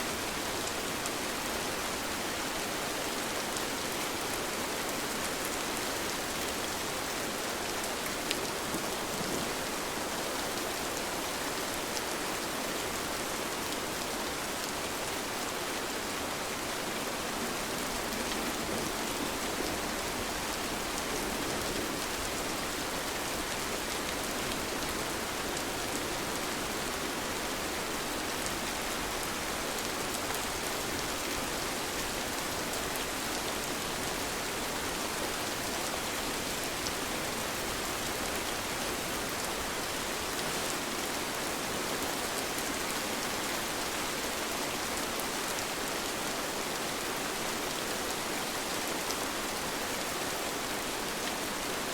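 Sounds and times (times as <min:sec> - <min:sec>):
gentle rain falling: 0:00.0 - 0:51.9.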